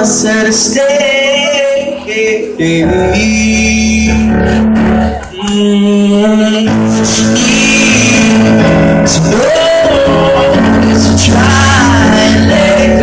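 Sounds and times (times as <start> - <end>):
live pop band playing: 0.0 - 13.0
person singing: 0.0 - 13.0.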